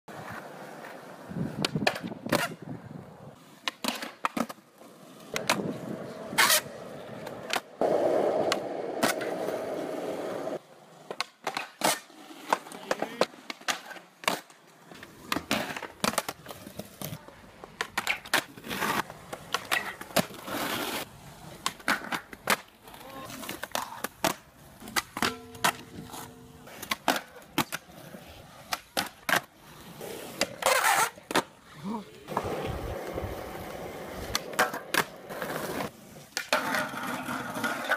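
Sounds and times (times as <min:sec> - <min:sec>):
skateboard clacks: 0:00.1 - 0:02.6, 0:03.6 - 0:04.7, 0:05.3 - 0:29.6, 0:32.3 - 0:37.9
skateboard wheels rolling on concrete: 0:00.1 - 0:37.9.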